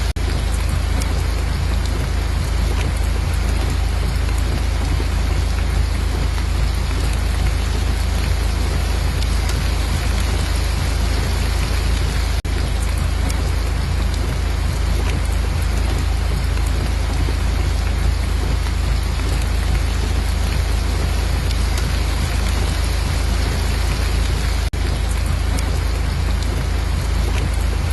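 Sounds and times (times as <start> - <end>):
steady rain hiss: 0.0 - 27.9.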